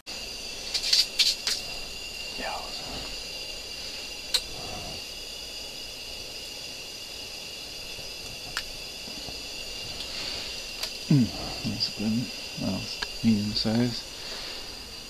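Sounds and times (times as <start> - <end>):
high-pitched whine: 0.1 - 15.0.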